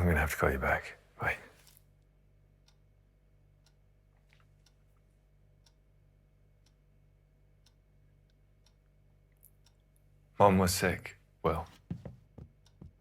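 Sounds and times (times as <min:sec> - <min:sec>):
low room hum: 0:00.0 - 0:13.0
clock ticking: 0:01.9 - 0:13.0.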